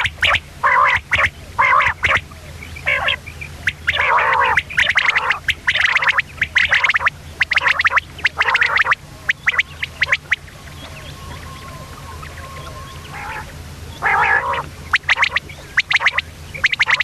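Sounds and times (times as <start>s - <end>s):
quail calling: 0.0s - 17.0s
steady low hum: 0.0s - 17.0s.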